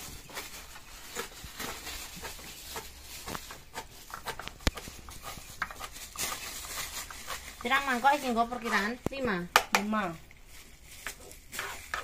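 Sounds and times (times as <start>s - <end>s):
garlic handled in clay mortar: 0.0s - 12.0s.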